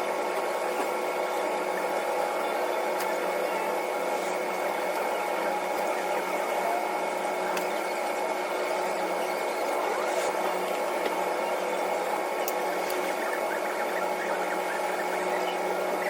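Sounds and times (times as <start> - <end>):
mechanical running hum: 0.0 - 16.0.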